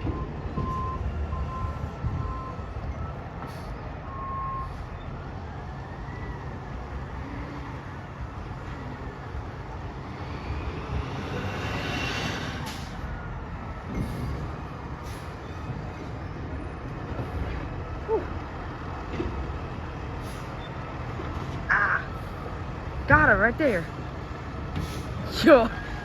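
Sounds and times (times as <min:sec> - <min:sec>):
garbage truck engine rumble: 0:00.0 - 0:26.0.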